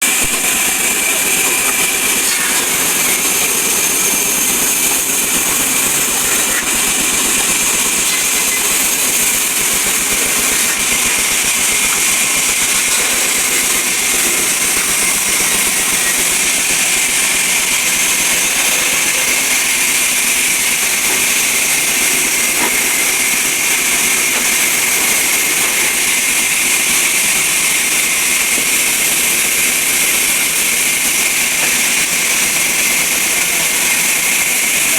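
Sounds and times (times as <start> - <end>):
sawmill saw whirring: 0.0 - 34.9.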